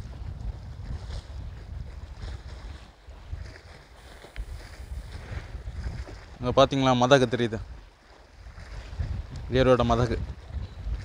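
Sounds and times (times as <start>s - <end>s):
lake water lapping: 0.0s - 11.0s
wind buffeting microphone: 0.0s - 11.0s.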